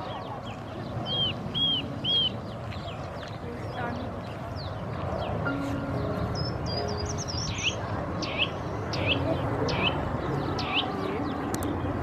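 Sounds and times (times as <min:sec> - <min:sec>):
birds chirping: 0:00.0 - 0:12.0
steady background rush: 0:00.0 - 0:12.0.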